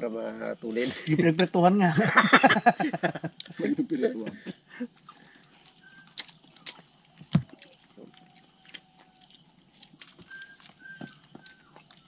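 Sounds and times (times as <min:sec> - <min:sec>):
people eating by hand: 0:00.6 - 0:12.0.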